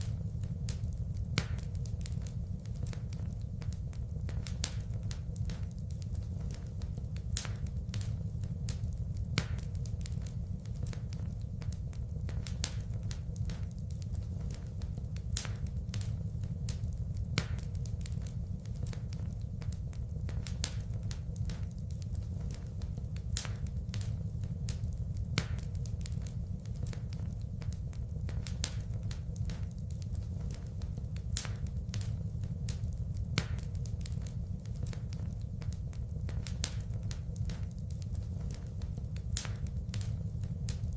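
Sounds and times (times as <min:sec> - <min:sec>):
low fire rumble: 0:00.0 - 0:40.9
wood fire crackling and popping: 0:00.0 - 0:40.9.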